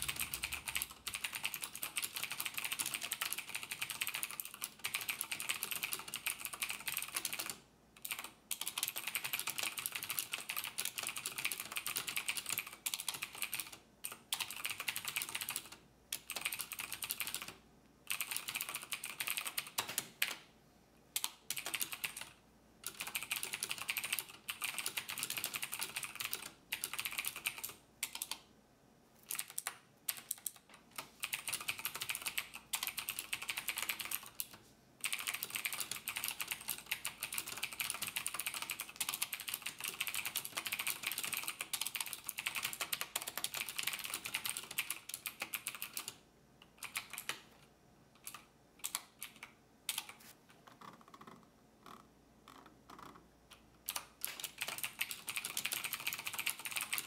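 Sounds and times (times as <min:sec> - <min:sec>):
fast typing on keyboard: 0:00.0 - 0:20.4, 0:21.2 - 0:28.5, 0:29.2 - 0:46.2, 0:46.8 - 0:47.5, 0:48.2 - 0:51.4, 0:53.8 - 0:57.0.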